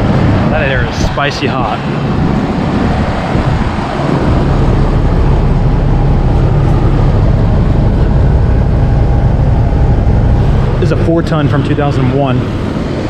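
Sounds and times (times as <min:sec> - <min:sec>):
condenser fans rushing: 0:00.0 - 0:13.0
low compressor hum: 0:00.0 - 0:13.0.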